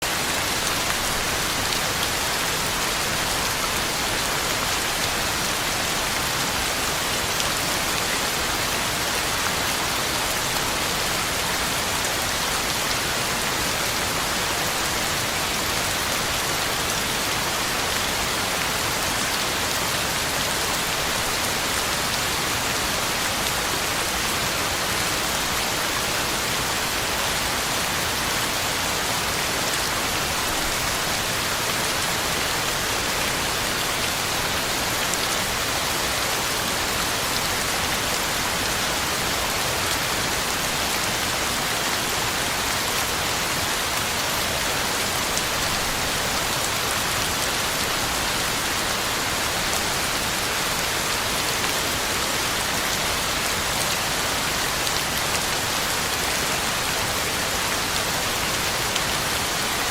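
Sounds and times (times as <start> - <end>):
heavy rain on ground and leaves: 0.0 - 59.9.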